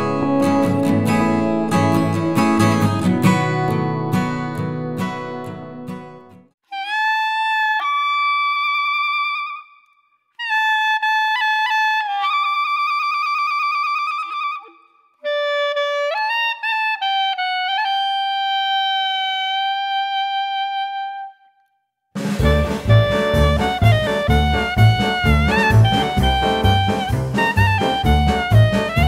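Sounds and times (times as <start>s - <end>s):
solo wind instrument melody: 0.0s - 5.8s, 6.6s - 21.8s, 22.4s - 29.0s.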